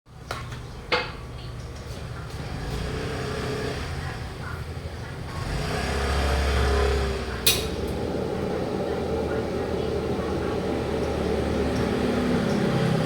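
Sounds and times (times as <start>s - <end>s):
vehicle engine rumble passing: 2.4s - 13.0s.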